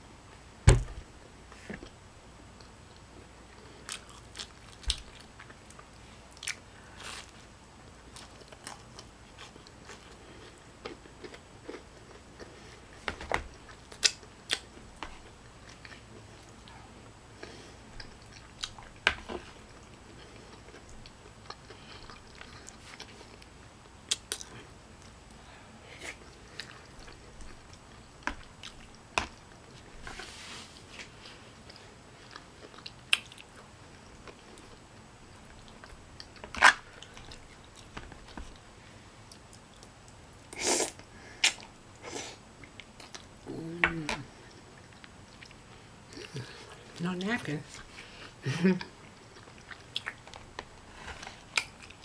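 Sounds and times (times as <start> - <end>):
person chewing: 2.6 - 7.4, 8.1 - 23.5, 24.1 - 25.4, 26.0 - 29.9, 31.0 - 47.0, 47.7 - 52.0.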